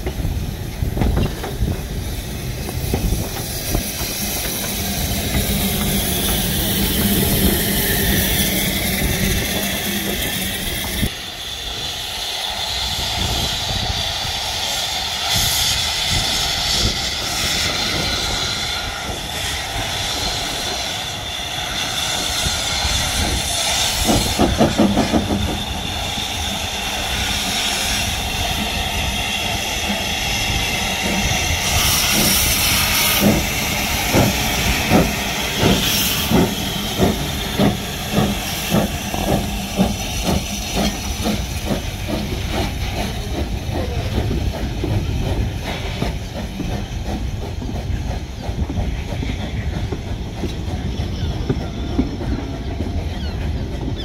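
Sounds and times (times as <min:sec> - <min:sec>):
steam hissing: 0:00.0 - 0:54.0
steam locomotive chuffing beats: 0:00.0 - 0:54.0.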